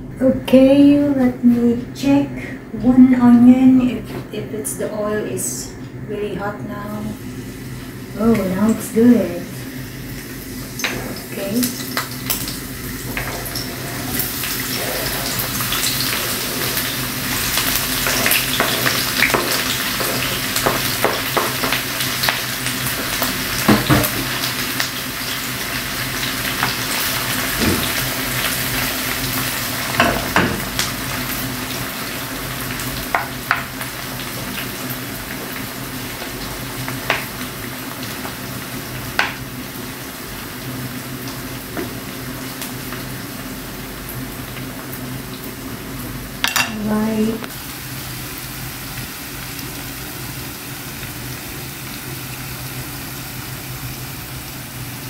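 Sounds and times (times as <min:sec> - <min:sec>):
onions sizzling in hot oil: 0:07.0 - 0:55.0.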